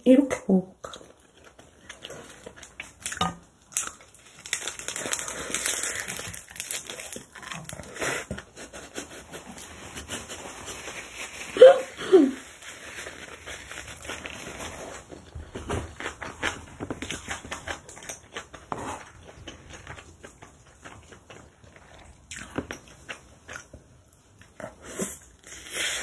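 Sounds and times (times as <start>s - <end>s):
wet crunchy chewing: 0.8s - 11.6s, 12.3s - 23.8s.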